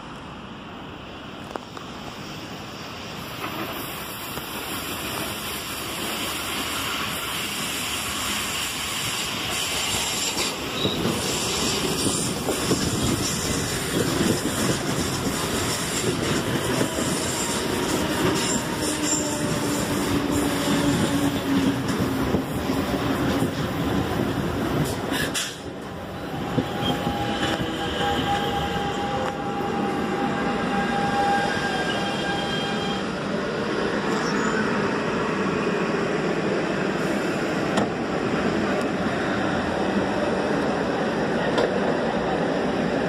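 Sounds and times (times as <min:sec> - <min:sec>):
electric train approaching: 0:00.0 - 0:43.0.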